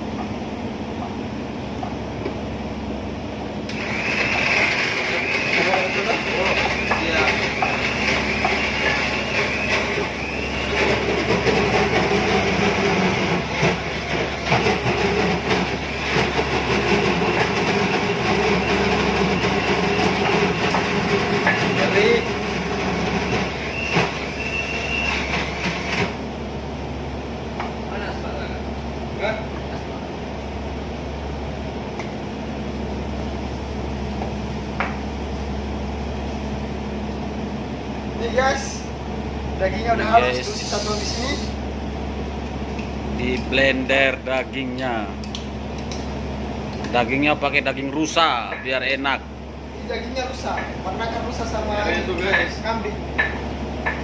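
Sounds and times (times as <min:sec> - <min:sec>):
ship engine droning: 0:00.0 - 0:48.4.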